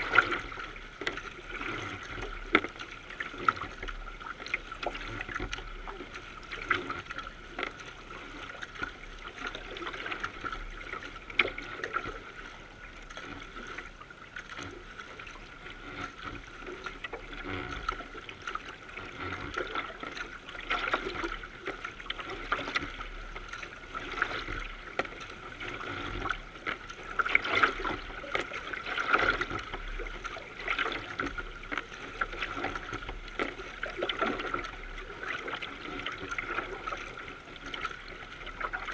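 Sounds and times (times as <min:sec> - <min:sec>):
small water splashes: 0:00.0 - 0:38.9
water rushing along canoe bow: 0:00.0 - 0:38.9.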